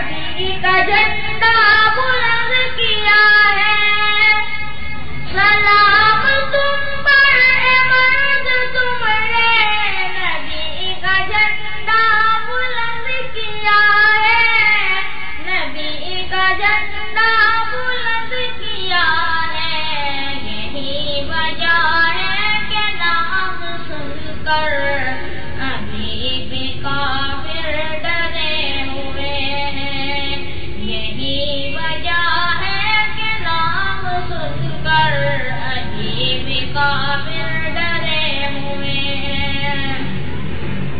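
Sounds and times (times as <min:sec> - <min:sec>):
person singing devotional song: 0:00.0 - 0:40.1.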